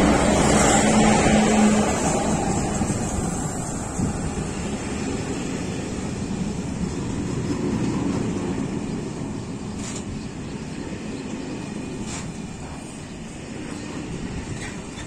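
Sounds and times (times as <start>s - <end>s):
freight wagons rumbling on rails: 0.0s - 15.0s.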